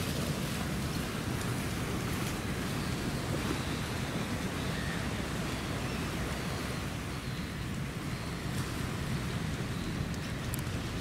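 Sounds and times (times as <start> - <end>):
sea washing on shore: 0.0 - 11.0
wind rumbling on microphone: 0.0 - 11.0.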